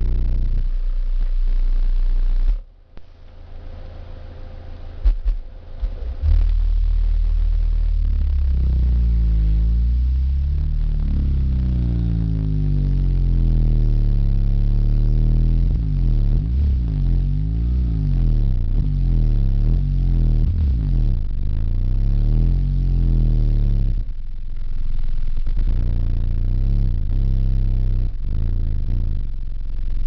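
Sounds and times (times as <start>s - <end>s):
bass tones sweeping in pitch: 0.0s - 30.0s
subwoofer playing deep bass: 0.0s - 30.0s.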